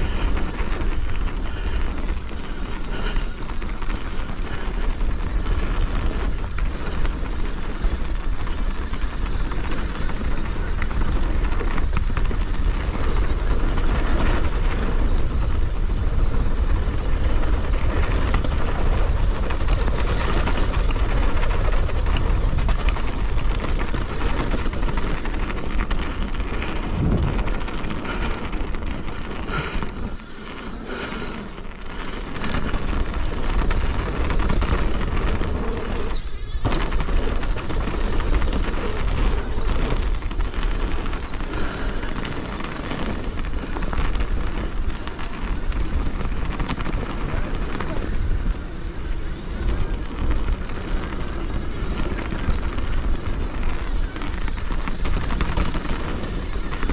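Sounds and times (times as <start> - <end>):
bike knocks and rattles: 0.0 - 56.9
tyre noise on dirt: 0.0 - 56.9
wind buffeting microphone: 0.0 - 56.9.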